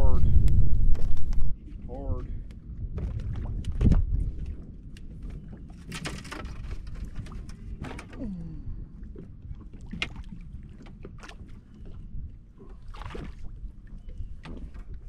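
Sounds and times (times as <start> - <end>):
wind on microphone: 0.0 - 15.0
small waves slapping boat hull: 0.9 - 15.0
water splashes: 2.9 - 15.0.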